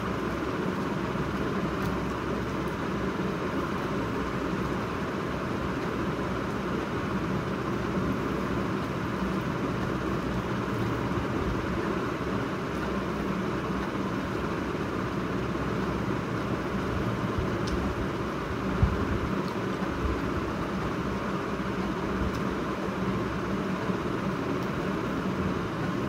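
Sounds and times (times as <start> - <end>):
ceiling fan rushing: 0.0 - 26.0.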